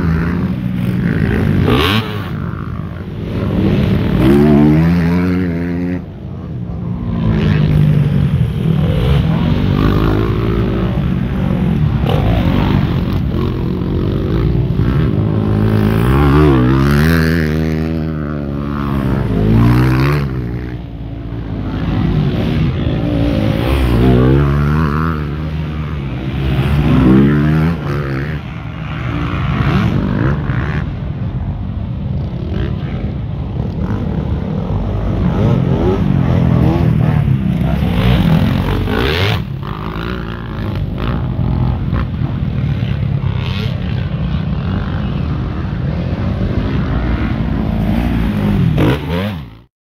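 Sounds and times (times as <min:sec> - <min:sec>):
motorcycle engine revving: 0:00.0 - 0:31.2, 0:32.2 - 0:49.7
motorcycle engines running: 0:00.0 - 0:49.7.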